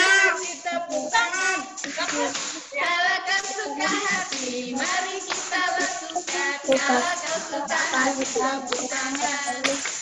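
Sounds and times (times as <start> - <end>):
hand clap: 0.0 - 2.7, 3.3 - 10.0
woman and children singing: 0.0 - 10.0.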